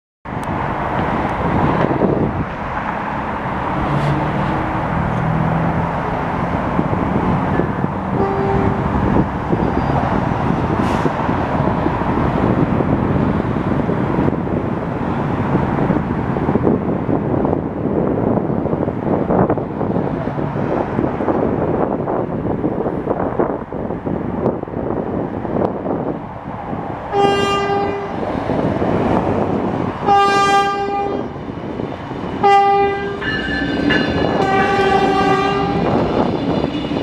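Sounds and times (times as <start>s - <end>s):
street traffic: 0.3s - 37.0s
wind buffeting microphone: 0.3s - 37.0s.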